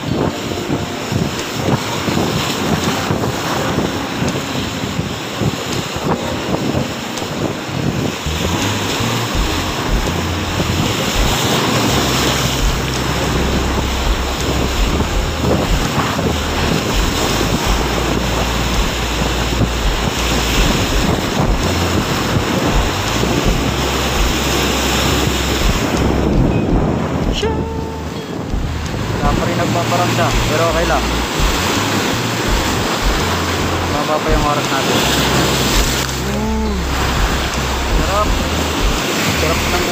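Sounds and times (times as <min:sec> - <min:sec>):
waves breaking over rocks: 0:00.0 - 0:39.9
wind buffeting microphone: 0:00.0 - 0:39.9.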